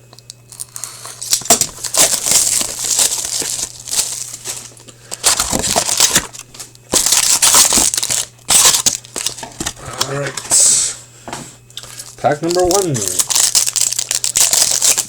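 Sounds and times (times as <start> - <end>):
card packaging crinkling and tearing: 0.2 - 10.5, 11.8 - 15.0.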